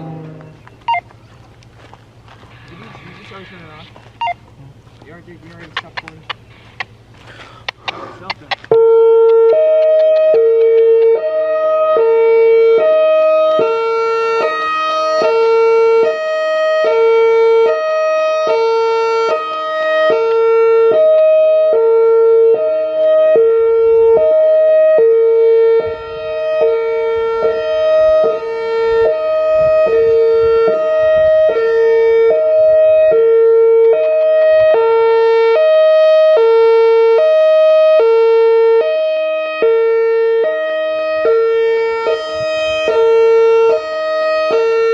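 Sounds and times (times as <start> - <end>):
hi-lo warning siren: 0.0 - 7.1, 8.2 - 44.9.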